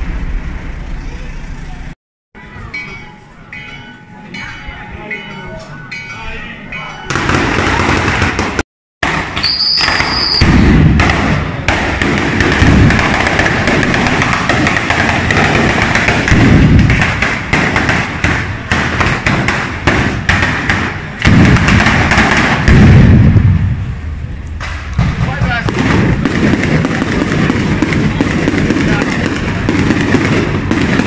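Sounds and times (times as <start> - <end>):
firecrackers banging: 5.9 - 31.0.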